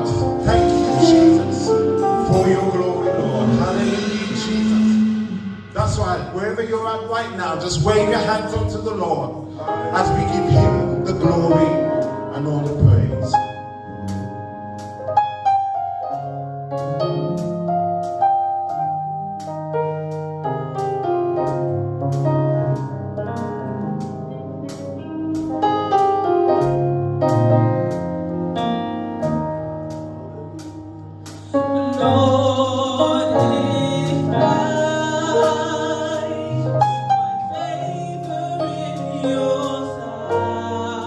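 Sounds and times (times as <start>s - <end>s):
gospel band playing: 0.0s - 41.0s
keyboard chords: 0.0s - 41.0s.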